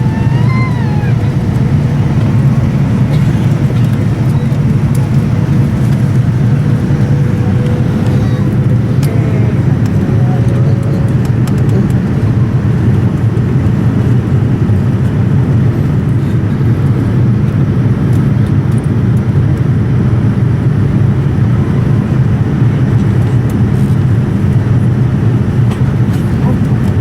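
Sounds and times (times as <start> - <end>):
airliner cabin noise: 0.0 - 27.0.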